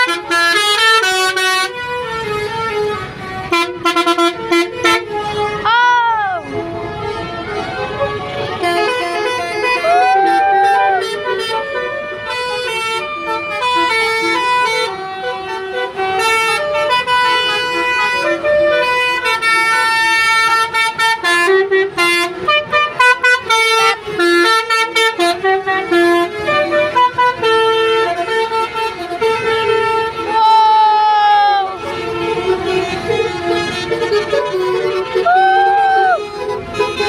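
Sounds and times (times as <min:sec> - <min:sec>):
multi-tone bus horn melody: 0:00.0 - 0:37.0.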